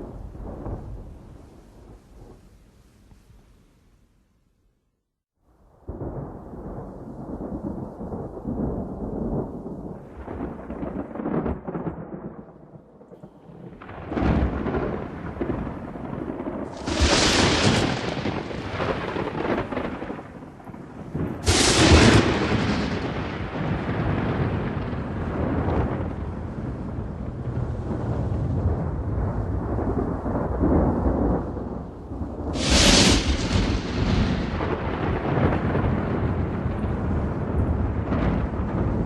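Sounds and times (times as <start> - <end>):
rolling thunder rumble: 0.0 - 2.6, 5.8 - 39.0
sharp thunder claps: 5.9 - 12.7, 13.4 - 39.0.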